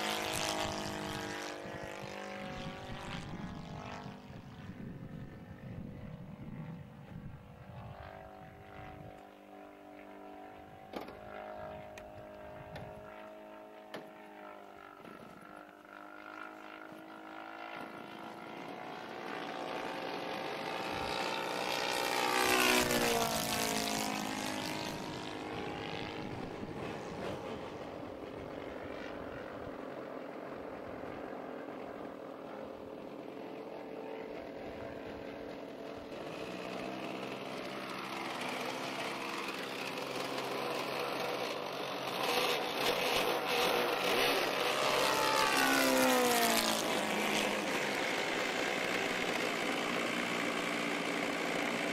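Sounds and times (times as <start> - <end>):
model plane engine passing by: 0.0 - 51.9.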